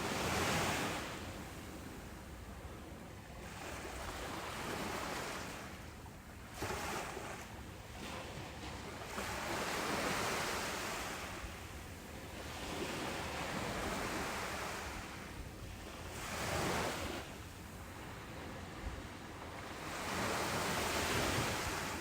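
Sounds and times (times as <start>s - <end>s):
ocean surf on a beach: 0.0s - 5.8s, 6.5s - 22.0s.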